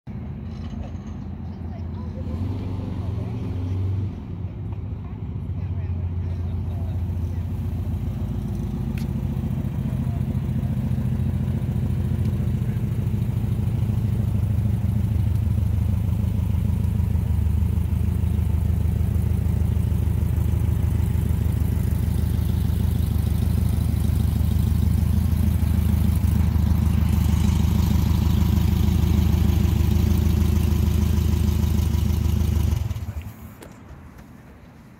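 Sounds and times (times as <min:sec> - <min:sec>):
car engine idling: 0:04.4 - 0:34.9.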